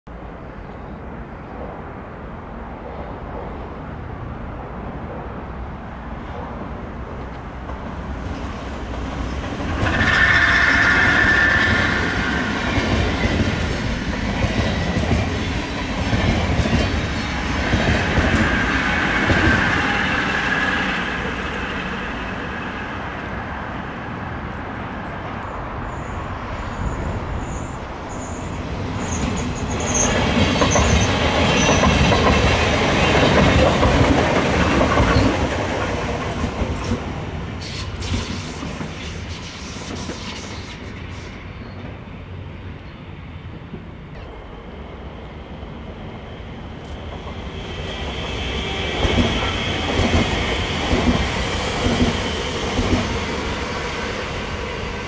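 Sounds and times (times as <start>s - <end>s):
train wheels rumbling on rails: 6.2s - 55.0s.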